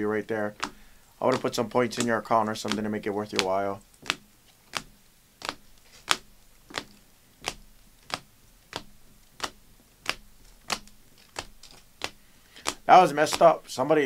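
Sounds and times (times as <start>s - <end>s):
plastic card holders clacking: 0.5s - 13.8s.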